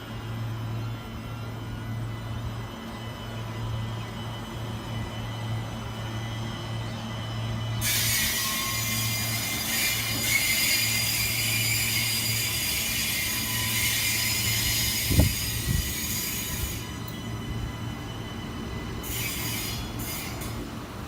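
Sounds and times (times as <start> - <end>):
train running on rails: 0.0 - 21.0
wheels squealing on rail: 0.8 - 21.0.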